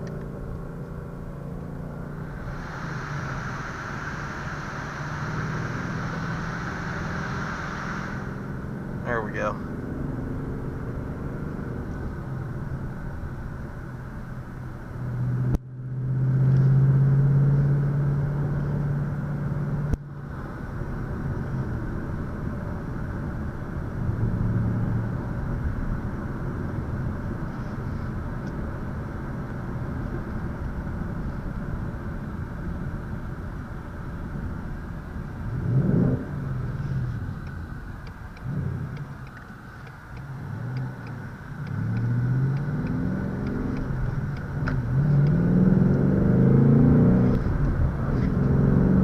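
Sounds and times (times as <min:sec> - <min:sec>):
car engine droning and revving: 0:00.0 - 0:49.0.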